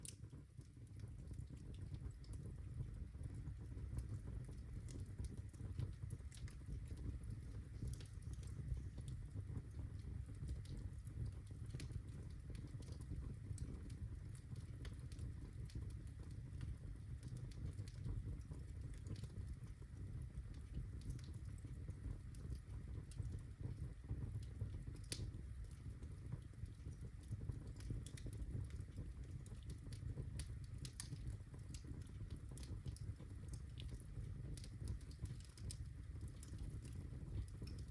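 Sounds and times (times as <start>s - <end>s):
fire crackling and popping: 0.0s - 37.9s
low rumble of flames: 0.0s - 37.9s.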